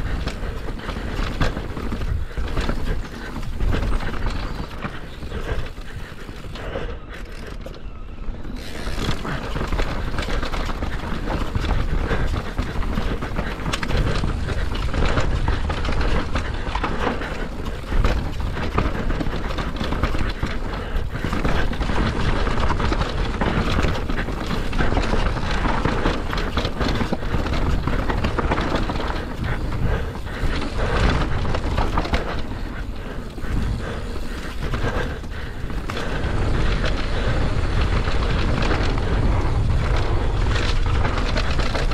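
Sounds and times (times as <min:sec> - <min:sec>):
bike rattling and knocking: 0:00.0 - 0:07.8, 0:08.4 - 0:41.9
bike tyres rolling on dirt: 0:00.0 - 0:41.9
wind rumbling on microphone: 0:00.0 - 0:41.9.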